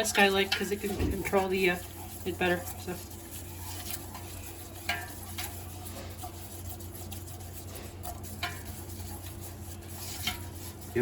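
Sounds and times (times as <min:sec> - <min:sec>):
steady low hum: 0:00.0 - 0:11.0
whisk scraping a pot: 0:00.0 - 0:11.0.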